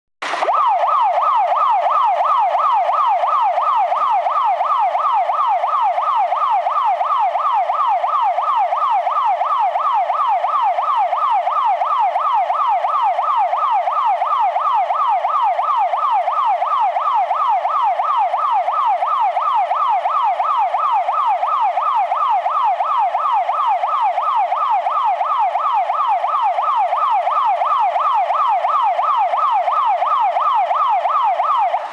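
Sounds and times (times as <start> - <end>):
fire engine siren yelp: 0.2 - 31.9.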